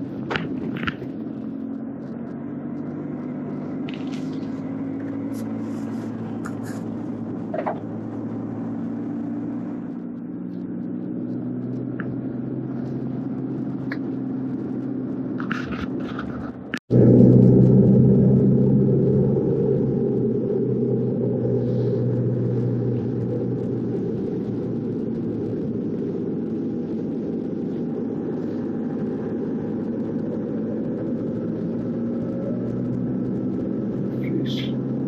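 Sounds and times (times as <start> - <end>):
car driving on wet road: 0.0 - 35.0.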